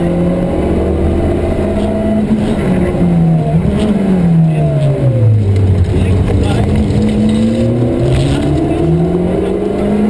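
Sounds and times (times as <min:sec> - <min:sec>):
rally car engine pulling hard: 0:00.0 - 0:10.0.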